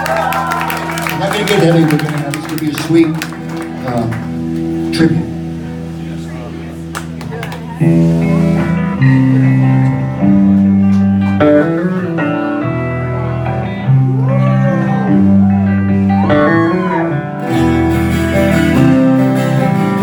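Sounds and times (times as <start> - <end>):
electric guitar chords: 0.0 - 20.0.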